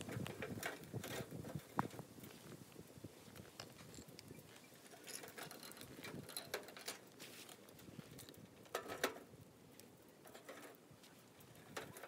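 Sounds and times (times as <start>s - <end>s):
firewood crackling: 0.0s - 12.0s.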